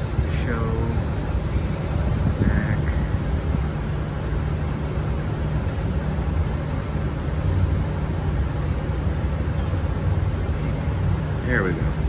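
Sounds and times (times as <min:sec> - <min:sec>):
low mechanical hum with rumble: 0:00.0 - 0:12.0.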